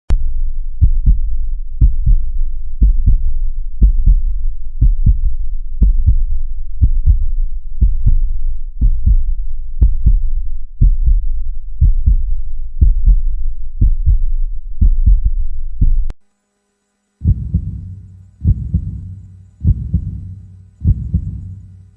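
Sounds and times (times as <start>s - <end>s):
heartbeat double thump: 0.8s - 16.1s, 17.2s - 21.7s.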